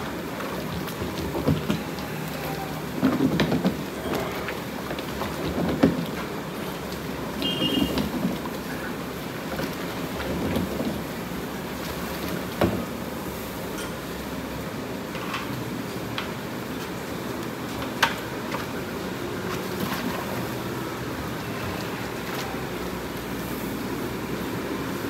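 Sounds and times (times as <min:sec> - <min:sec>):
paddle stirring sloshing feed: 0:00.0 - 0:13.7, 0:16.4 - 0:25.0.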